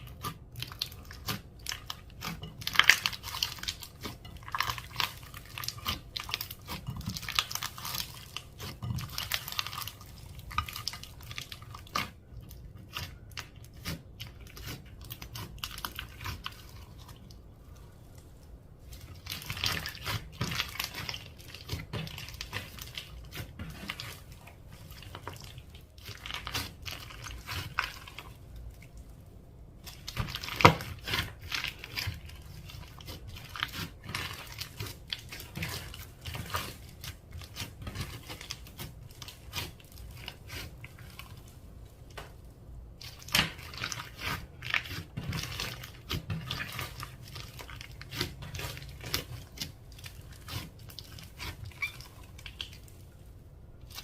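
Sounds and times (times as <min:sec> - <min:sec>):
slime squelching: 0:00.0 - 0:54.0.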